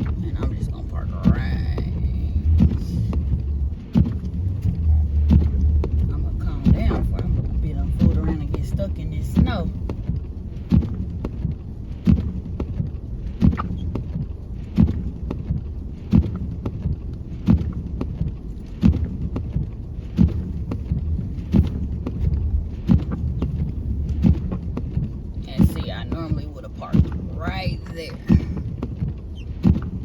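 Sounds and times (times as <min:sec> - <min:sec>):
low steady rumble: 0:00.0 - 0:30.0
regular thump: 0:00.0 - 0:30.0.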